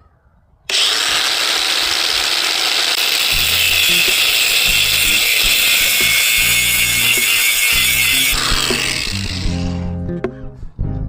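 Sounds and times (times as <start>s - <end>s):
angle grinder cutting brick: 0.7s - 10.0s.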